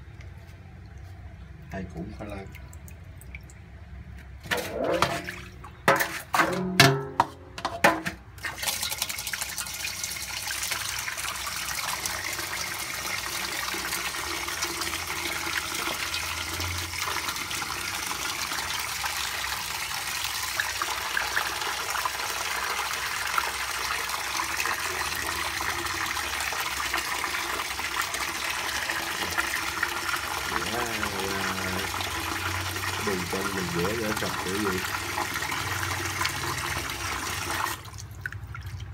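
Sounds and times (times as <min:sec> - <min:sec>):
tap water running into basin: 0:00.2 - 0:06.6, 0:07.2 - 0:38.9.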